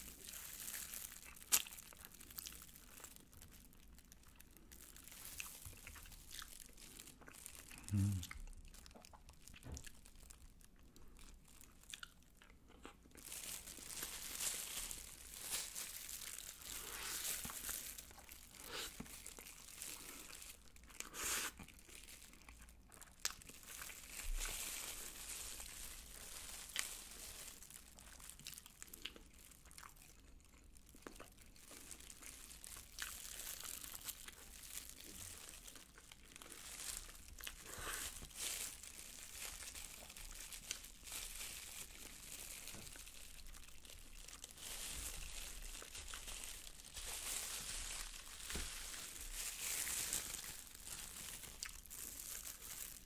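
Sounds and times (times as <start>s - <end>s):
plastic gloves crinkling: 0.0s - 12.4s, 13.0s - 53.0s
crunching and chewing: 0.0s - 53.0s.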